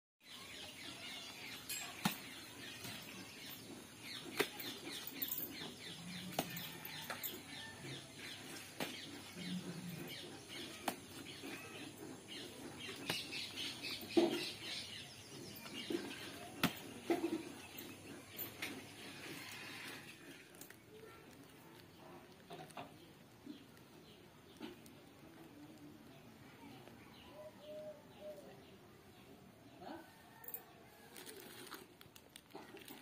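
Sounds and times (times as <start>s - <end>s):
birds chirping: 0.2s - 29.8s.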